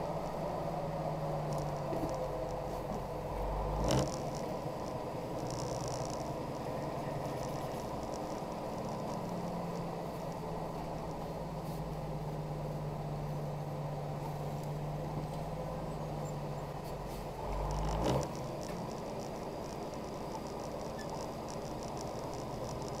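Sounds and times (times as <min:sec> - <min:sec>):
truck engine and road noise: 0:00.0 - 0:23.0.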